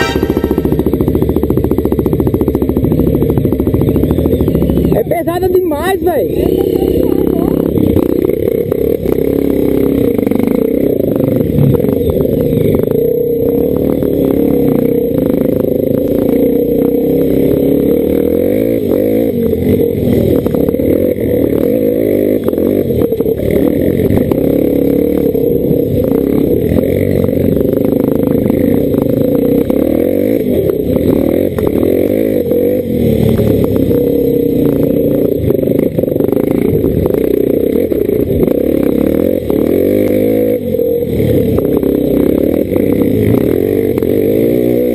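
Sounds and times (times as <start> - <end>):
bike rattling over bumps: 0.0 - 44.9
dirt bike engine revving: 0.0 - 44.9.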